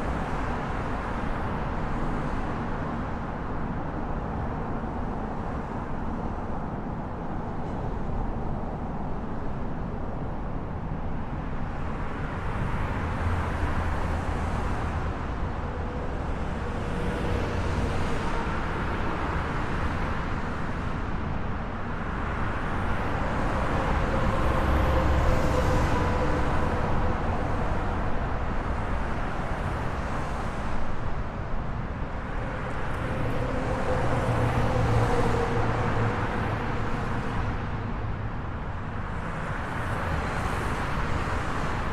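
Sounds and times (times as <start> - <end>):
highway traffic rushing: 0.0 - 41.9.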